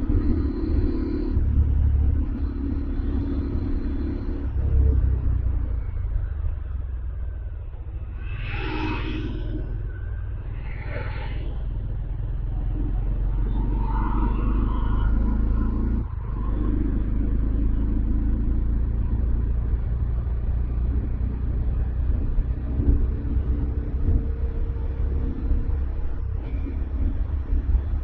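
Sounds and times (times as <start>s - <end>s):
motorcycle engine and exhaust: 0.0s - 28.0s.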